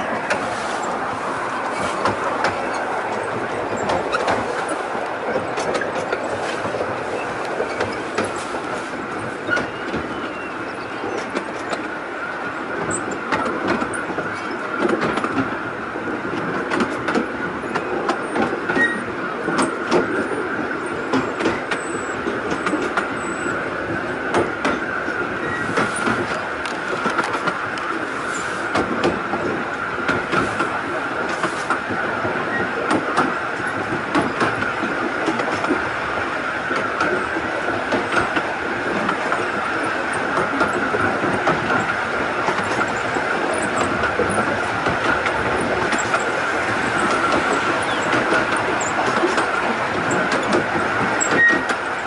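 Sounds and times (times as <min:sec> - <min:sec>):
train wheels rumbling on track: 0:00.0 - 0:52.0.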